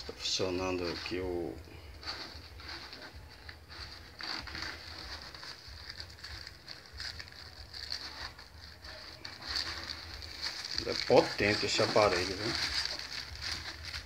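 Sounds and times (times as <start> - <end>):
cardboard record jacket rustling: 0.0 - 14.0.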